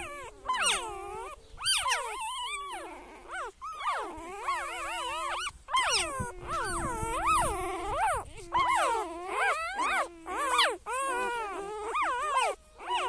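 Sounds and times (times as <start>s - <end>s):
pet animal wavering cries: 0.0s - 13.0s.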